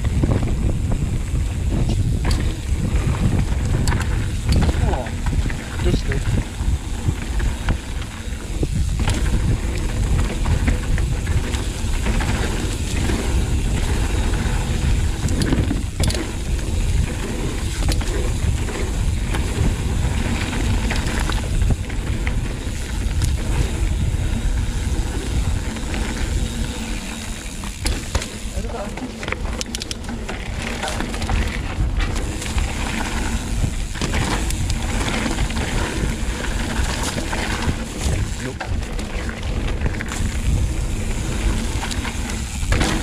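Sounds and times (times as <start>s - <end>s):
bike rattling over bumps: 0.0s - 43.0s
wind and tyres rumbling: 0.0s - 43.0s.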